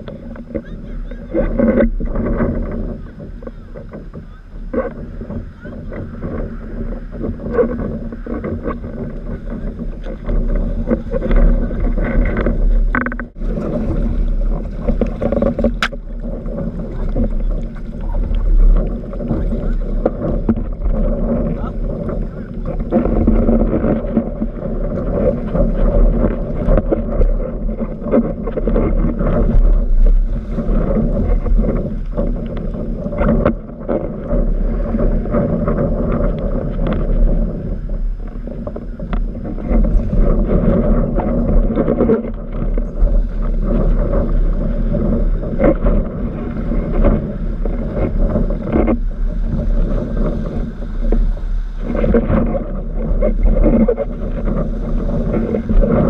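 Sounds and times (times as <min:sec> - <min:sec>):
board slapping and splashing water: 0:00.0 - 0:56.0
rushing water: 0:00.0 - 0:56.0
wind buffeting microphone: 0:00.0 - 0:56.0.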